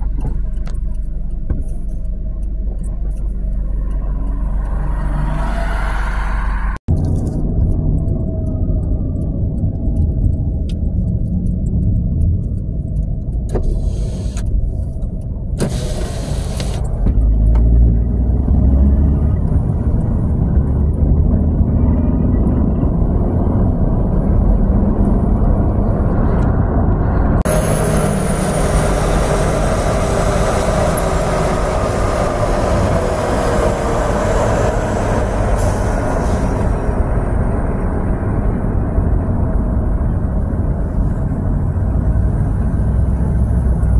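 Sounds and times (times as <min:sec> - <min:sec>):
traffic rushing noise: 0:00.0 - 0:43.9
vehicle engine and tyre rumble: 0:00.0 - 0:43.9.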